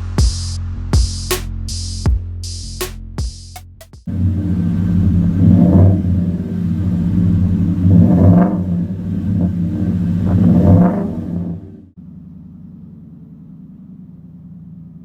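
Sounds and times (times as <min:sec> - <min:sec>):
truck exhaust idling and revving: 0:00.0 - 0:03.0, 0:04.1 - 0:15.0.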